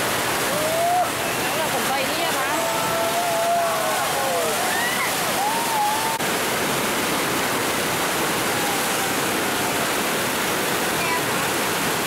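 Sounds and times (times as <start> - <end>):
rushing river rapids: 0.0 - 12.0.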